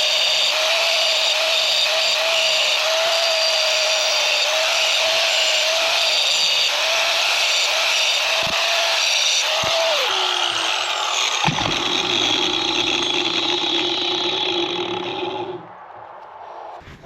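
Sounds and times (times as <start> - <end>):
angle grinder cutting metal: 0.0 - 15.6.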